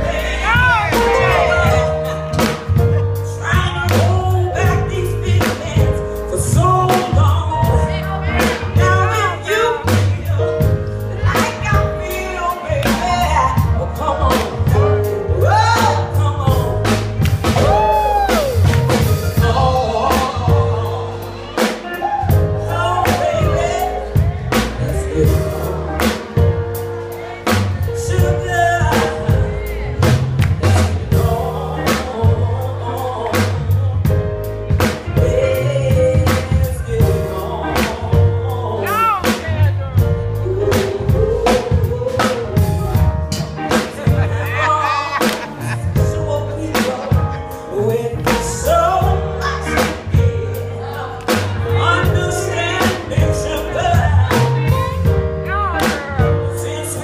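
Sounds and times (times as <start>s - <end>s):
bass notes: 0.0s - 57.0s
piano accompaniment: 0.0s - 57.0s
regular beat: 0.0s - 57.0s
woman singing: 0.0s - 57.0s.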